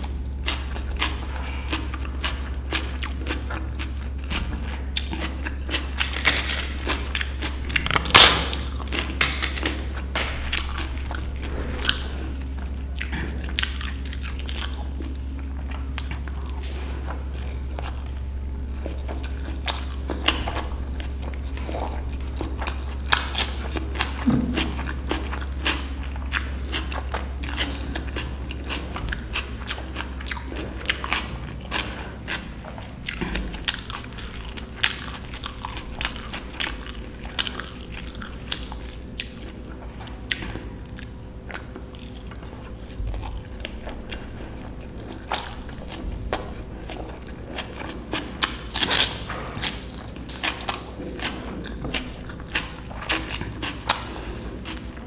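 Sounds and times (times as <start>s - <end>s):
chewing with clicks and snaps: 0.0s - 55.0s
steady low hum: 0.0s - 55.0s.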